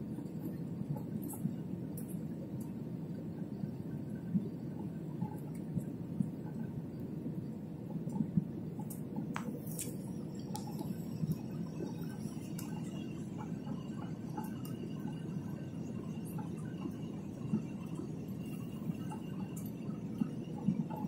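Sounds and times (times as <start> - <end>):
engine and airflow rumble: 0.0 - 21.0.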